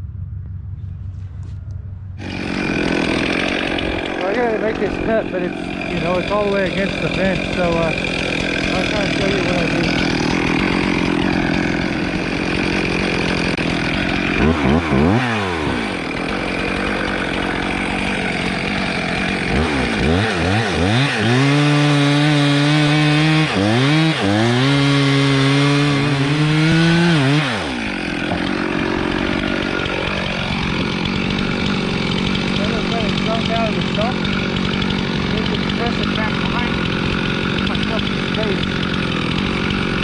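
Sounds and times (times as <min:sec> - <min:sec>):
chainsaw revving and cutting wood: 0:02.2 - 0:40.0.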